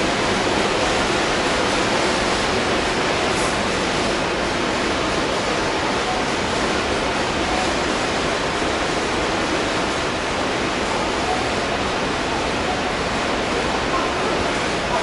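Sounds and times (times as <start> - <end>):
station ventilation rushing: 0.0 - 15.0
stopped train humming: 0.0 - 15.0.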